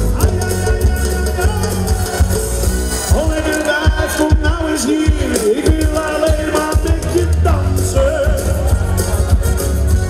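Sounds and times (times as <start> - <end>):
heavy bass and drums: 0.0 - 10.0
pop music over loudspeakers: 0.0 - 10.0.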